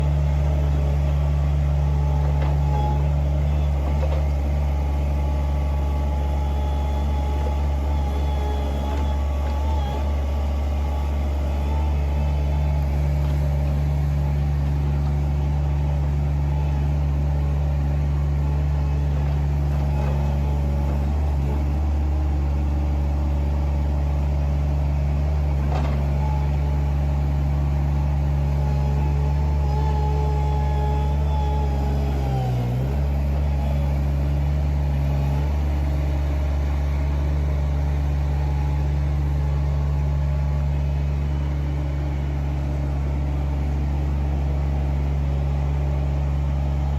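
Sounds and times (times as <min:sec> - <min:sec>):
machinery engine running: 0:00.0 - 0:46.9.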